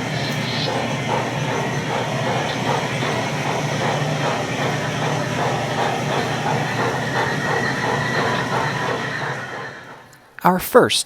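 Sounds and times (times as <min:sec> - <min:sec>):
model steam locomotive chuffing: 0:00.0 - 0:10.4.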